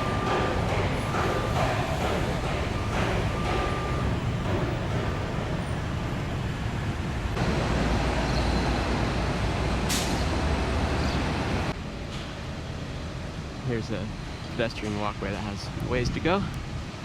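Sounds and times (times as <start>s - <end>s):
road traffic rumble and hiss: 0.0s - 17.0s.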